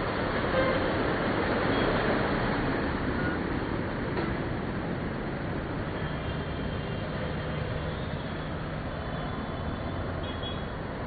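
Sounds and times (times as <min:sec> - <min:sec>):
engine and traffic rumble: 0:00.0 - 0:11.0.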